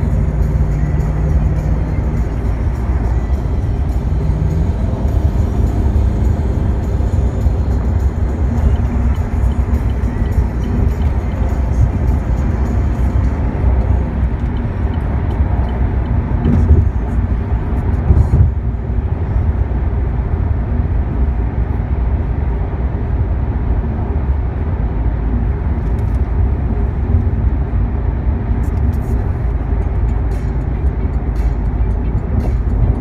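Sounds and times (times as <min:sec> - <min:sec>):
car cabin road and engine drone: 0:00.0 - 0:33.0.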